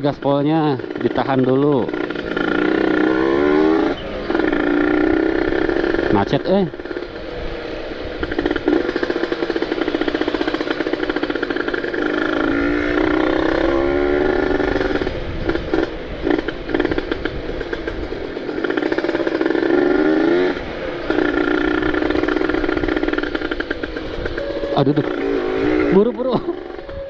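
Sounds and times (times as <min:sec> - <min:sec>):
two-stroke motorcycle engine revving: 0:00.0 - 0:27.0.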